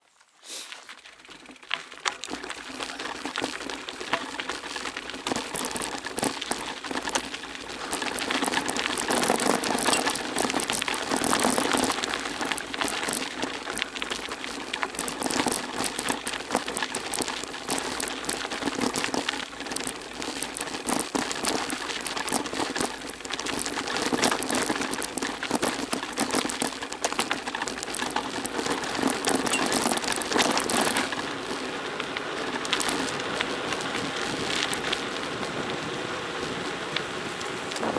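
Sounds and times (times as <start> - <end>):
bicycle tyres crunching gravel: 0.0 - 37.9
bike rattling: 0.0 - 37.9.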